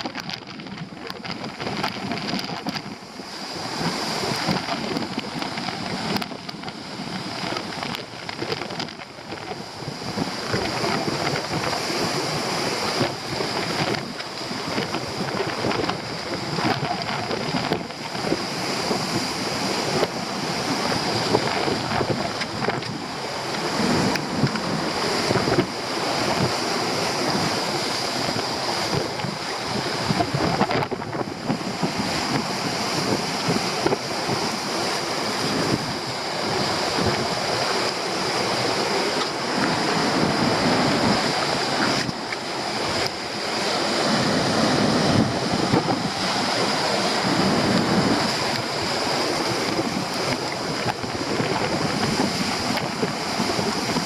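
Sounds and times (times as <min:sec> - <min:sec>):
sea surf crashing: 0:00.0 - 0:54.0
wind buffeting microphone: 0:00.0 - 0:54.0.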